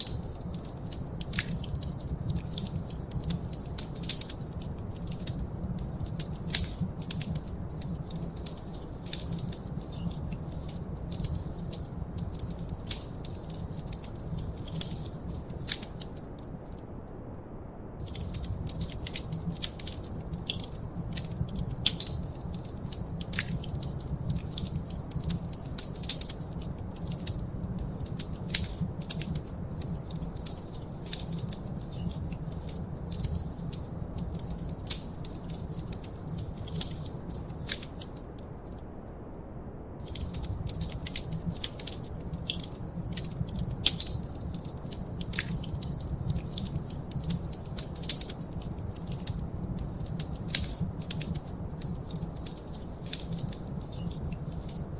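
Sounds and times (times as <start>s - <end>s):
wood fire crackling: 0.0s - 17.2s, 18.0s - 39.3s, 40.0s - 54.9s.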